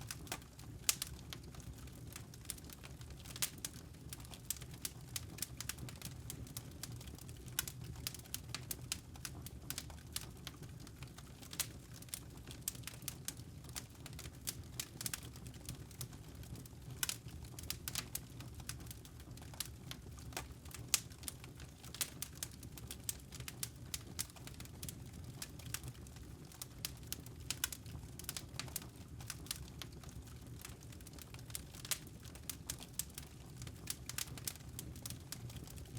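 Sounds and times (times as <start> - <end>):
campfire crackling: 0.0 - 35.9
low rumble of burning logs: 0.0 - 35.9.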